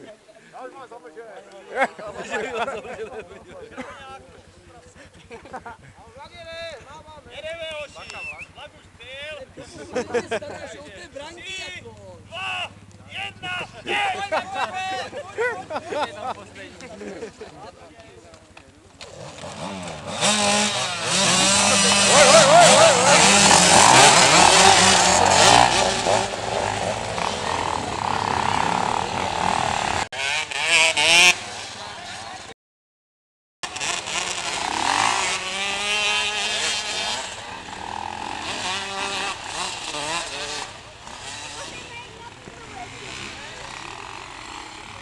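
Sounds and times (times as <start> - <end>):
motocross bikes revving: 1.8 - 32.5, 33.6 - 45.0.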